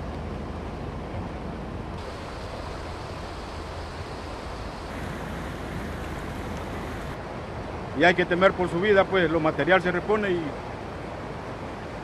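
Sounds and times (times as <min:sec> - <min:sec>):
floodwater rushing: 0:01.9 - 0:12.0.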